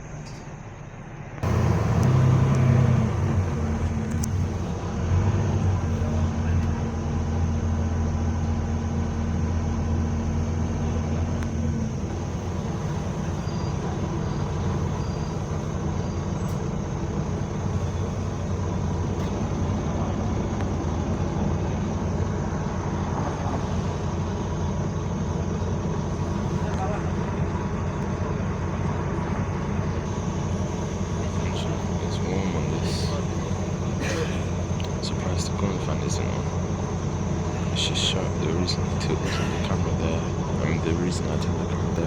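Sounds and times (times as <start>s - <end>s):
bus engine running: 0.0s - 42.0s.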